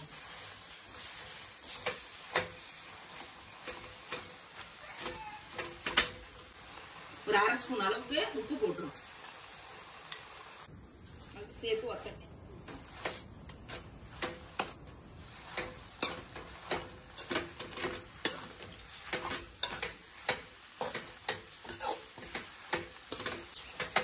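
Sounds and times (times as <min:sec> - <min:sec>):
metal spatula scraping a pan: 0:00.0 - 0:06.5, 0:11.1 - 0:24.0.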